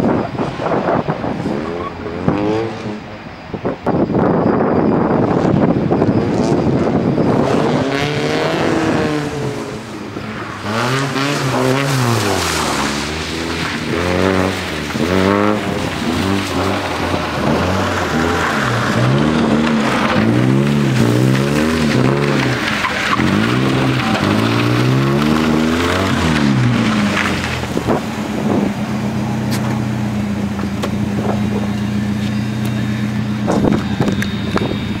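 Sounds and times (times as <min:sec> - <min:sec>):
car engine revving: 0:00.0 - 0:03.3, 0:05.1 - 0:35.0.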